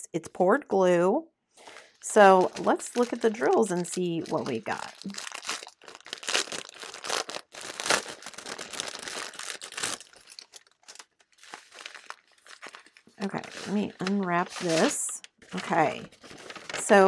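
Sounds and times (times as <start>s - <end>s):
plastic packaging crinkling: 1.6s - 17.0s.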